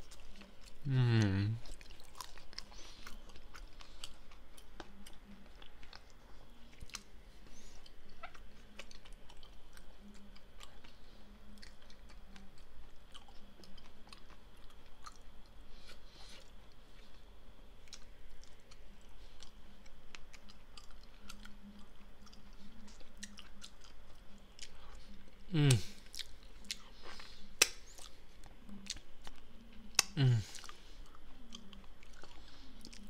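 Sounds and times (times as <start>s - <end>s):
person chewing: 0.0s - 33.0s.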